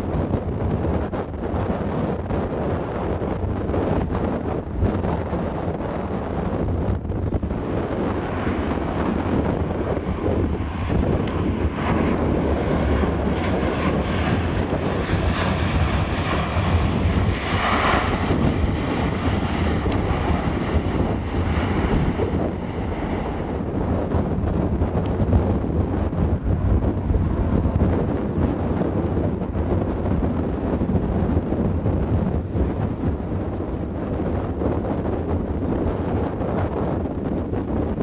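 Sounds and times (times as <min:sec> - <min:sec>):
turboprop aircraft droning: 0:00.0 - 0:38.0.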